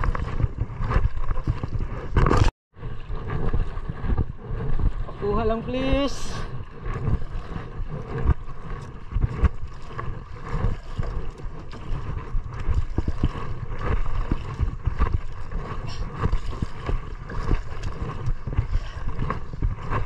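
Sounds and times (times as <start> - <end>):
water splashing against hull: 0.0 - 20.0
wind buffeting microphone: 0.0 - 20.0.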